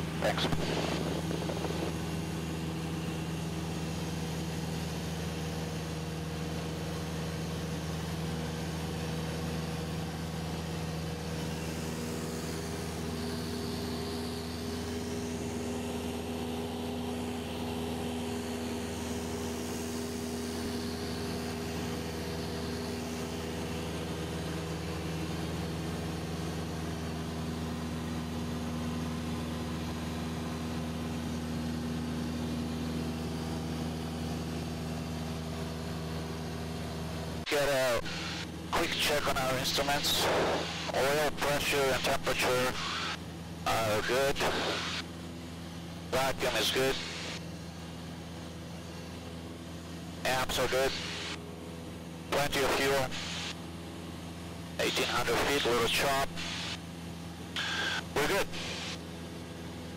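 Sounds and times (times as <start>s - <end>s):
propeller aircraft engine droning: 0.0s - 59.9s.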